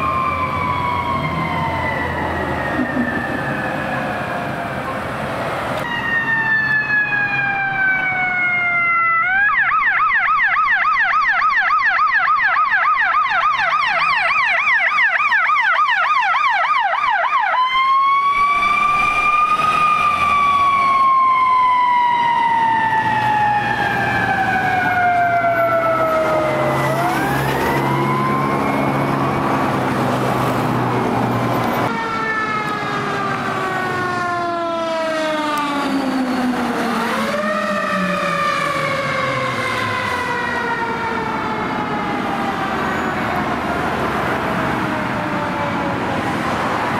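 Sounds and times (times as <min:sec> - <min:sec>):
wailing and yelping siren: 0:00.0 - 0:05.2, 0:05.8 - 0:46.9.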